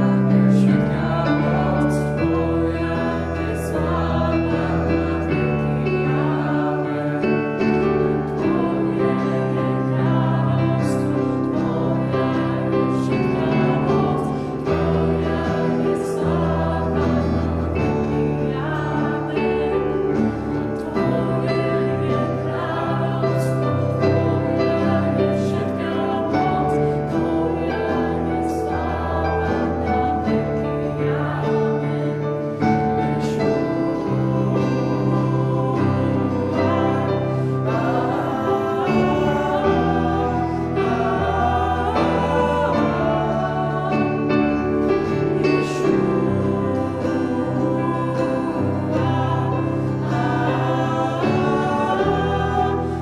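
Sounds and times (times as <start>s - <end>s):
keyboard: 0.0s - 53.0s
woman and man singing together: 0.0s - 53.0s.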